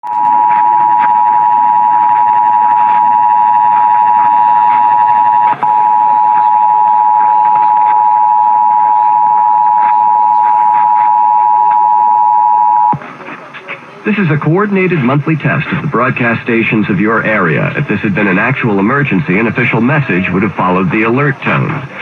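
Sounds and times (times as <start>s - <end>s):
radio static crackles: 0.0s - 22.0s.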